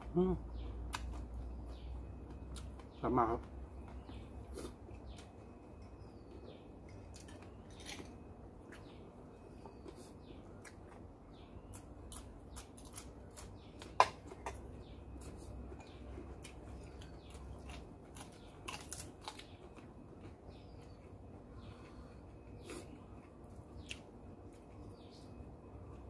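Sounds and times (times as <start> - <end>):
birds chirping: 0.0 - 26.0
person chewing and crunching food: 0.7 - 25.4.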